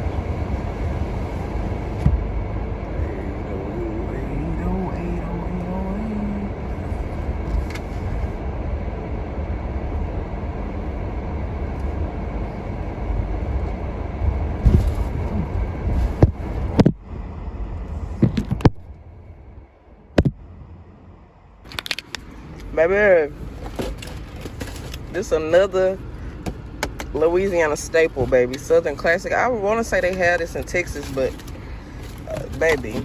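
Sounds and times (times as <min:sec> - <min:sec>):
car engine rumble: 0:00.0 - 0:33.0
road noise inside car: 0:00.0 - 0:33.0.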